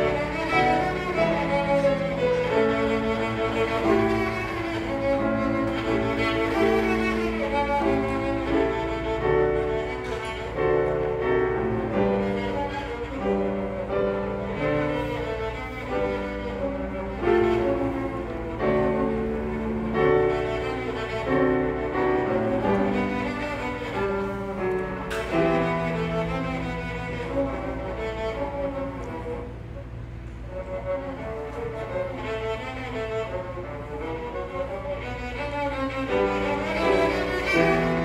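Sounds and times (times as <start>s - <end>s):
cello bowed notes: 0.0s - 38.0s
grand piano: 0.0s - 38.0s.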